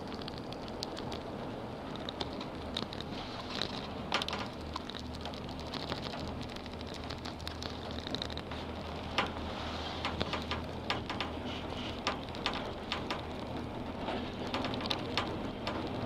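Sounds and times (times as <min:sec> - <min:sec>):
gondola cabin low hum: 0:00.0 - 0:16.0
ticking and clicks: 0:00.0 - 0:16.0.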